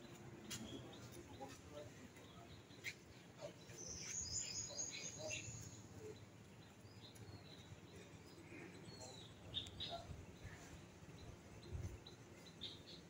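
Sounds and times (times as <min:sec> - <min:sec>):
faint high bird chirps: 0:00.0 - 0:13.0
low outdoor background: 0:00.0 - 0:13.0.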